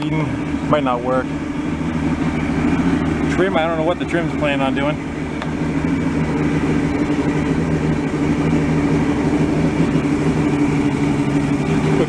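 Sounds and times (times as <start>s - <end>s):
outboard engine idling: 0.0s - 12.0s.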